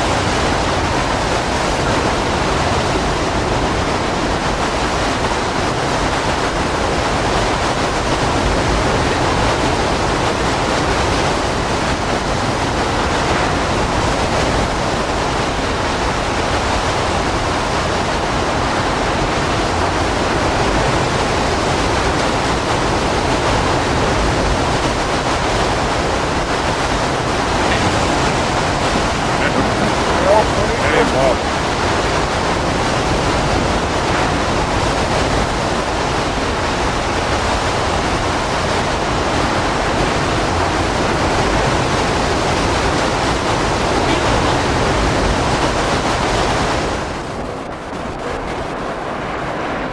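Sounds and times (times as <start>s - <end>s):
driving rain: 0.0s - 49.9s
roaring wind: 0.0s - 49.9s.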